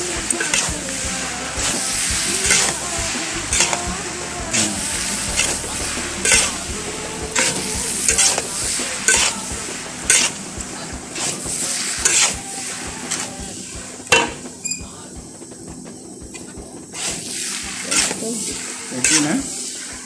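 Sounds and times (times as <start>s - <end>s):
noodles sizzling in a wok: 0.0s - 14.5s, 17.0s - 20.0s
utensil scraping metal wok: 0.0s - 14.8s, 16.3s - 20.0s.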